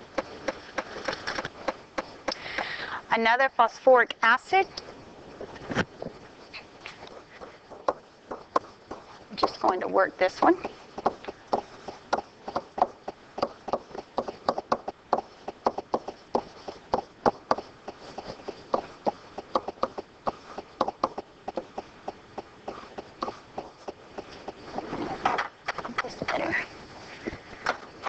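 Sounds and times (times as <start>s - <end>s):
stylus tapping and scratching: 0.0s - 2.7s, 4.7s - 26.5s.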